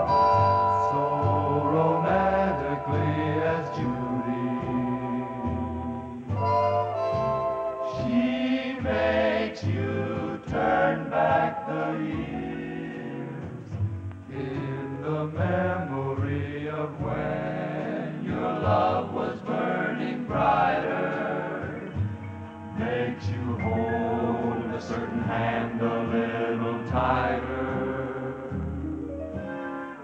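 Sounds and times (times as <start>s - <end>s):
male vocal group singing: 0.0s - 6.6s, 7.9s - 28.8s.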